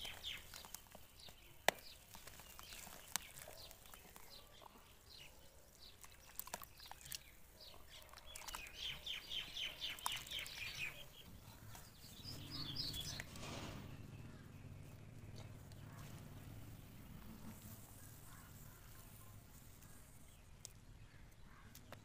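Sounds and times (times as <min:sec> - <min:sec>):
dirt crumbling and squelching: 0:00.0 - 0:22.0
small bird chirping: 0:00.0 - 0:22.0.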